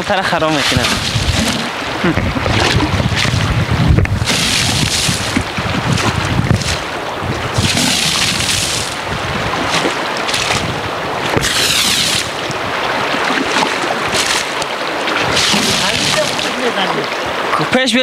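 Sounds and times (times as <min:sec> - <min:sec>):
wind buffeting microphone: 0:00.0 - 0:17.7
river water rushing: 0:00.0 - 0:18.0
water splashing over car: 0:00.0 - 0:18.0.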